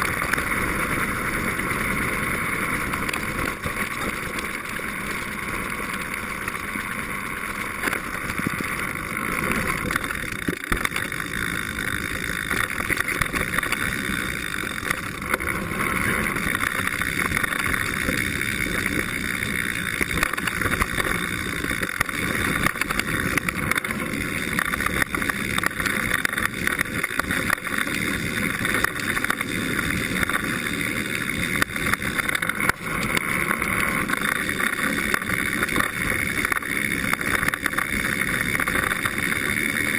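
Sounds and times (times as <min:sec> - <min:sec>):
bike rattles and knocks: 0:00.0 - 0:39.9
tyre and trail noise: 0:00.0 - 0:39.9.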